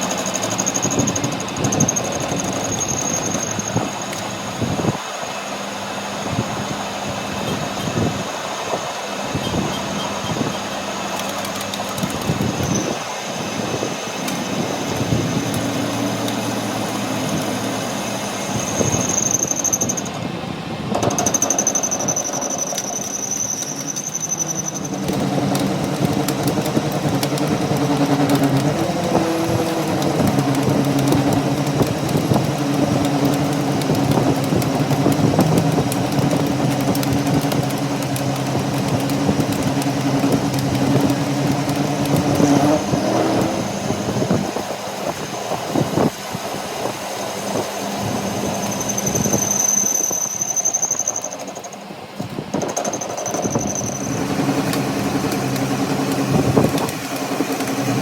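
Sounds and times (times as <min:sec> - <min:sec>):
high whine: 0:00.0 - 0:51.8
machinery hum: 0:00.0 - 0:58.0.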